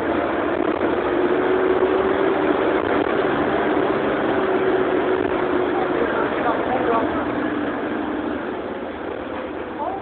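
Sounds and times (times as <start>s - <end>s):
bus diesel engine running: 0.0s - 10.0s
steady hum: 0.0s - 10.0s.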